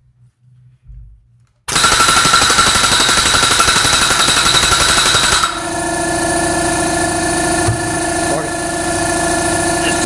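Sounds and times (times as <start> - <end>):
machine hum: 0.5 - 10.0
power tool hammering: 1.7 - 10.0.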